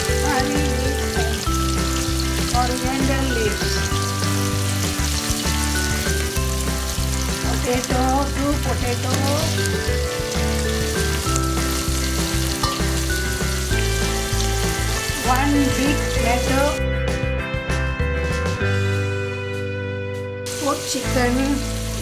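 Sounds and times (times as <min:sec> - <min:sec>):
food sizzling in hot oil: 0:00.0 - 0:16.8, 0:20.5 - 0:22.0
background music with held chords: 0:00.0 - 0:22.0.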